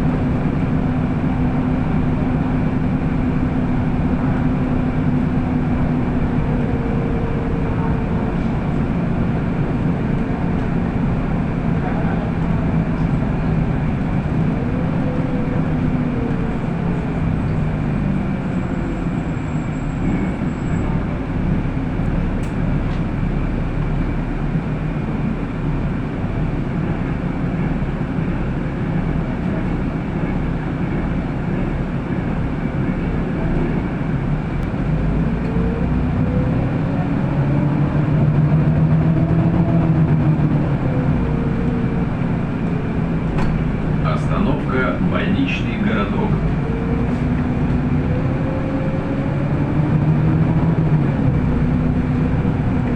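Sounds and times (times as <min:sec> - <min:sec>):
bus driving road noise: 0:00.0 - 0:52.9.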